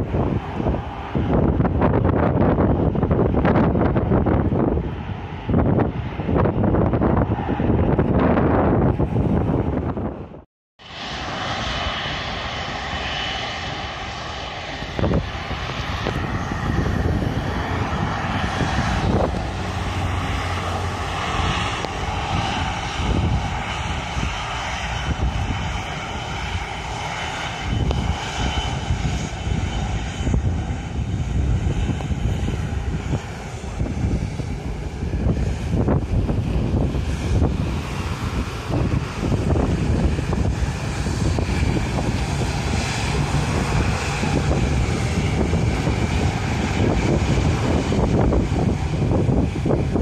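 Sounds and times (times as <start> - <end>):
jet engines whining: 0.0 - 50.0.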